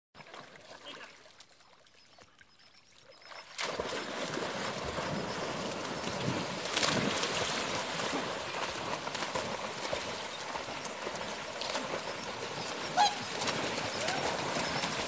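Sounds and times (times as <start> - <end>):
dogs splashing through water: 0.2 - 2.3, 3.0 - 15.0.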